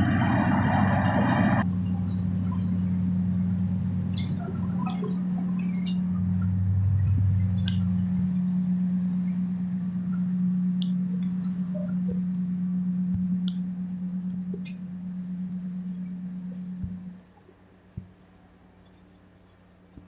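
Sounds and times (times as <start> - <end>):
passenger train humming: 0.0 - 17.3.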